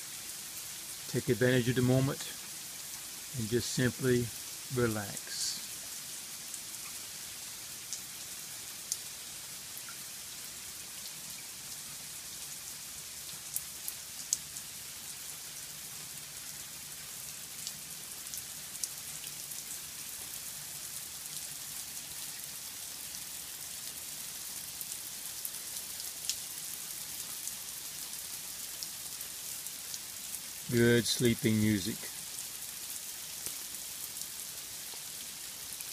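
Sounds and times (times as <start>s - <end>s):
rain falling: 0.0s - 35.9s.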